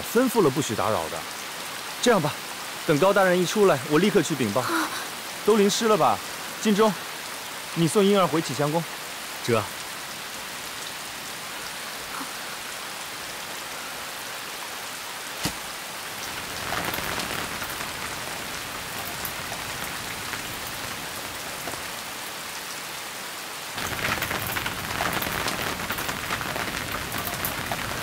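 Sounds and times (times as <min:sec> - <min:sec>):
heavy rain falling: 0:00.0 - 0:28.0
rain beating on an umbrella: 0:00.0 - 0:28.0.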